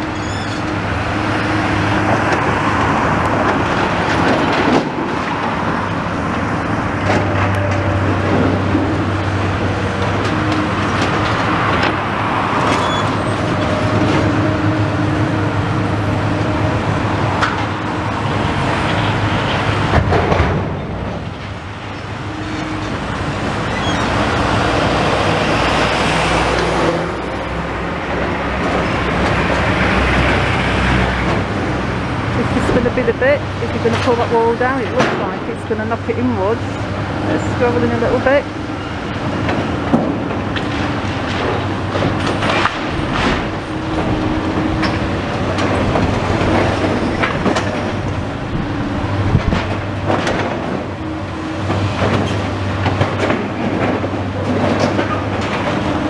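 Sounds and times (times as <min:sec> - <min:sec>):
diesel excavator engine running: 0:00.0 - 0:56.0
passing road traffic: 0:00.0 - 0:56.0.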